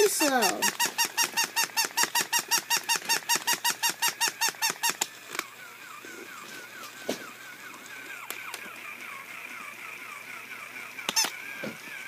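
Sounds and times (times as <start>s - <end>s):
toy dog mechanism squeaking: 0.0s - 12.0s.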